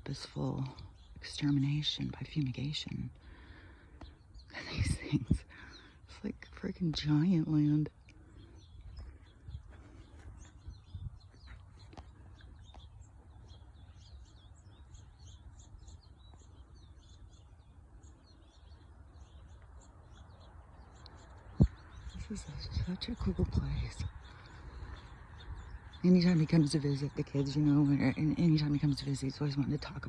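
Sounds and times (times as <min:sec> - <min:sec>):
small birds chirping: 0:00.0 - 0:30.0
steady low rumble: 0:00.0 - 0:30.0.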